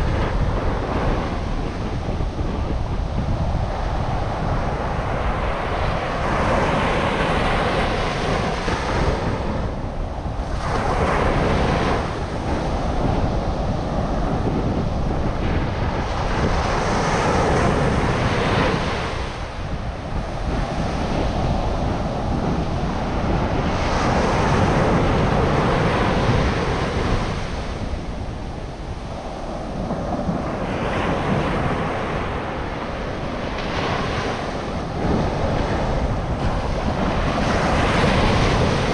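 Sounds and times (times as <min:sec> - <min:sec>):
ocean surf breaking: 0:00.0 - 0:38.9
wind rumbling on microphone: 0:00.0 - 0:38.9.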